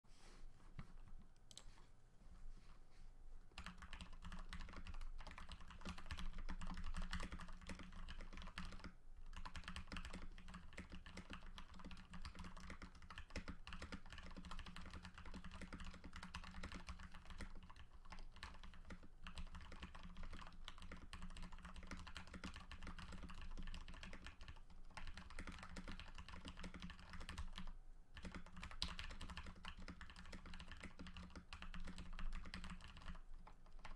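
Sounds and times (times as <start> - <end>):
mechanical keyboard typing: 3.6 - 33.9.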